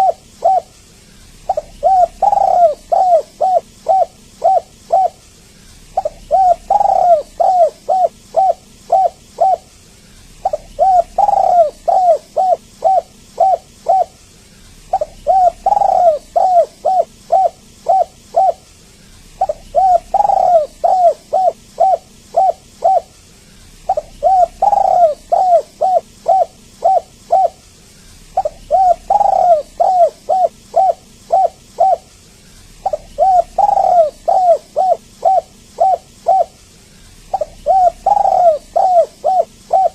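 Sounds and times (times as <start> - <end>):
dove cooing: 0.0 - 23.2, 23.8 - 39.9.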